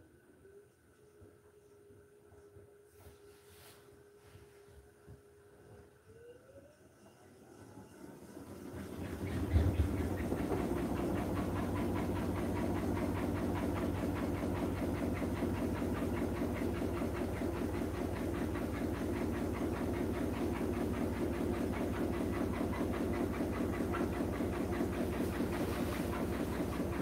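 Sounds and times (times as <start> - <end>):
washing machine humming and pulsing: 0.0 - 27.0.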